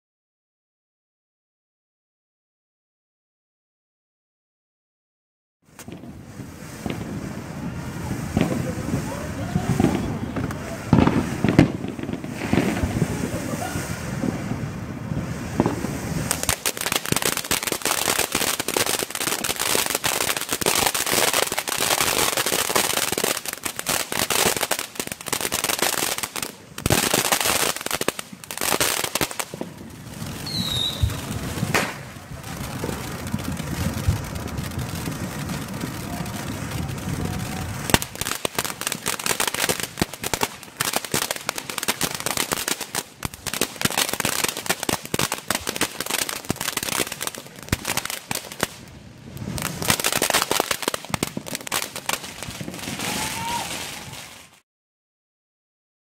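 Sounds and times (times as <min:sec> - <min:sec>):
firework fountain hissing and crackling: 0:05.6 - 0:54.6.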